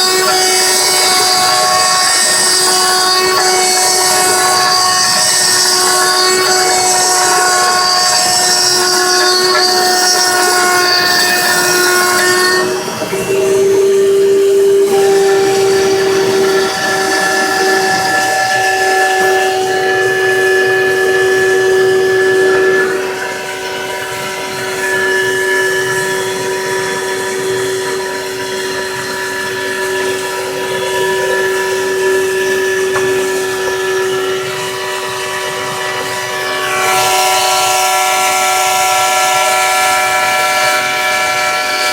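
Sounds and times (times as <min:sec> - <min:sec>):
cutting noise hiss: 0:00.0 - 0:41.9
machine spindle whine: 0:00.0 - 0:41.9.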